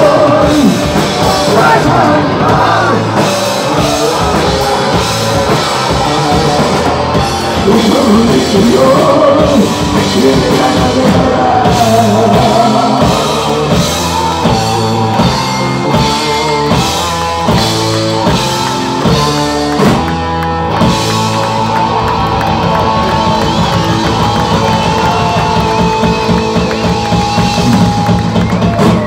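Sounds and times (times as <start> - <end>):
heavy rock band playing: 0.0 - 29.0.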